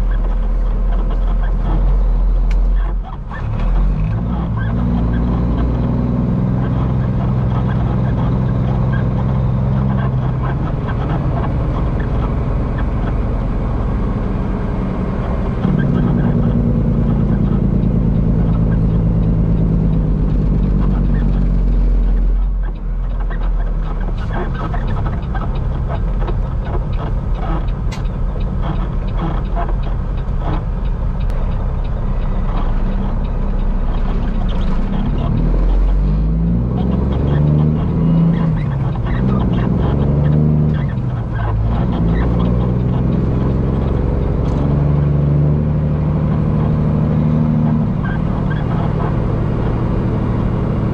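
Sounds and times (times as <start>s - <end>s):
diesel truck engine droning: 0.0s - 50.9s.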